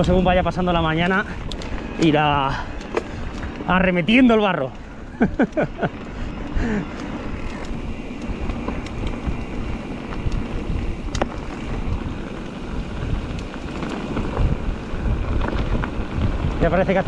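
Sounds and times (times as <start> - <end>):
bike tyres rolling on muddy trail: 0.0 - 17.0
wind buffeting microphone: 0.0 - 17.0.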